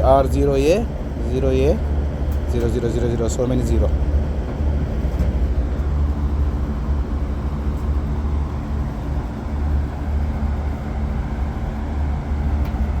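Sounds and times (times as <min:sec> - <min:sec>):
air-conditioning machinery humming: 0:00.0 - 0:13.0.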